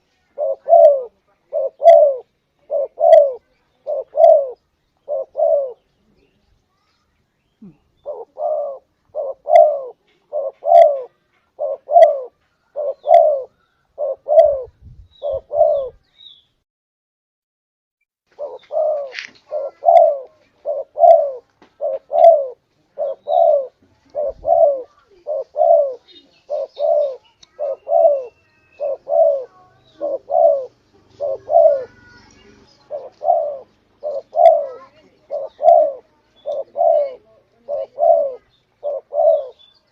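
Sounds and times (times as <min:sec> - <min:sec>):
dove cooing: 0:00.0 - 0:05.9, 0:07.6 - 0:16.0, 0:18.3 - 0:39.7.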